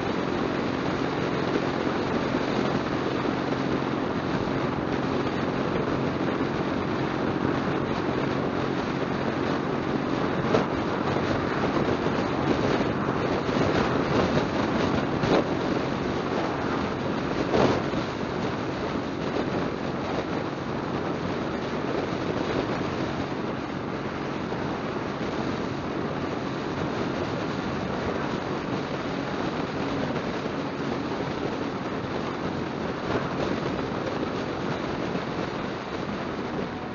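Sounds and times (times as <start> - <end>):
motorcycle engine cruising: 0.0 - 36.9
road and wind noise: 0.0 - 36.9
vehicles passing: 0.0 - 36.9.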